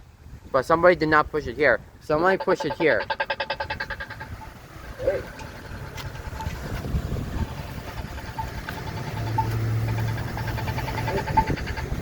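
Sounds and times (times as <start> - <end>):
passing traffic: 1.6 - 12.0
vehicle engine drone: 2.1 - 12.0
crossing signal beeping: 2.2 - 12.0.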